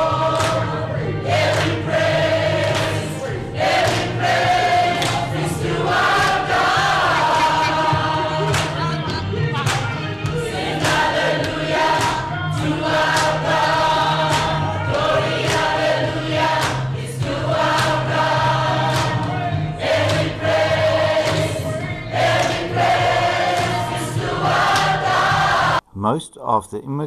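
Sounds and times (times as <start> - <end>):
choir singing gospel song: 0.0 - 25.8.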